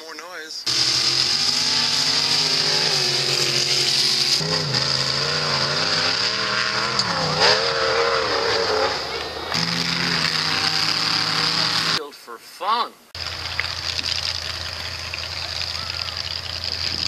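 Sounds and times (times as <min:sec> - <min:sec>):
off-road engines at full throttle: 0:00.6 - 0:12.0, 0:13.2 - 0:17.0
truck engine climbing dirt hill: 0:00.7 - 0:12.0, 0:13.2 - 0:17.0.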